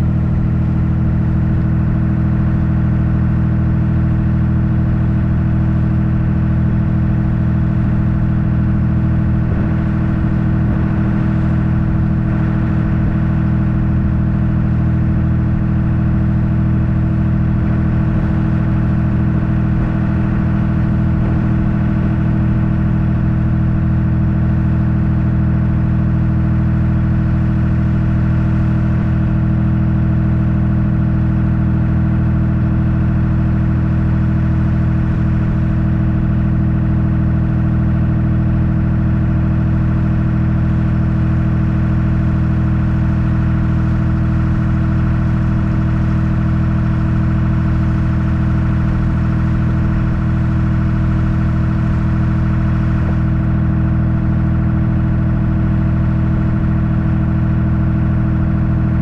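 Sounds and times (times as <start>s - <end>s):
boat motor droning: 0.0s - 59.0s.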